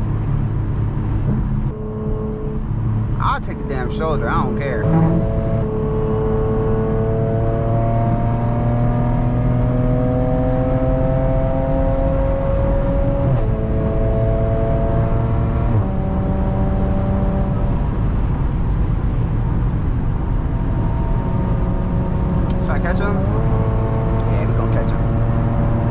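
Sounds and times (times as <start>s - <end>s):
car engine and exhaust accelerating: 0.0s - 25.9s.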